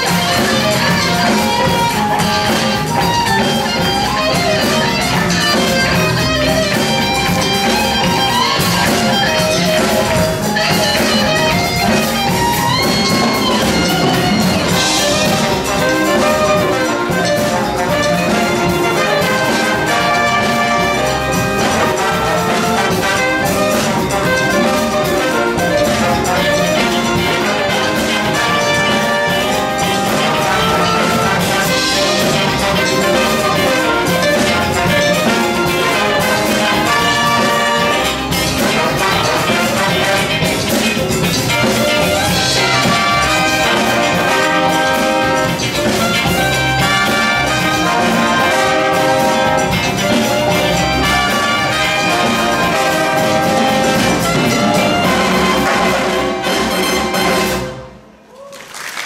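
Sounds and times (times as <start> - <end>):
electric guitar: 0.0 - 57.6
big band horns playing: 0.0 - 59.0
latin percussion: 0.0 - 59.0.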